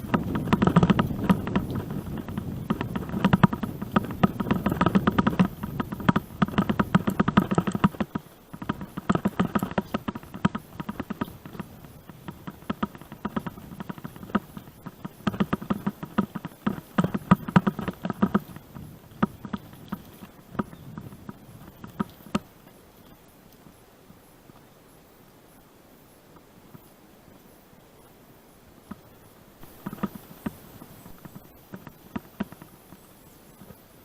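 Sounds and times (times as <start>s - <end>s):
mountain bike rattling on gravel: 0.0s - 23.4s, 28.9s - 34.0s.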